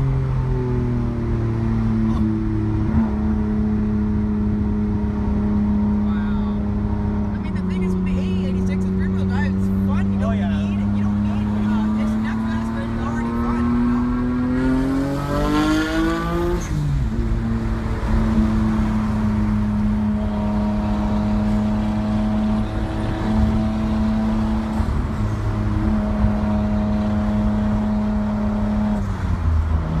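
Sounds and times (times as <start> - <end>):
car engine revving inside cabin: 0.0 - 30.0.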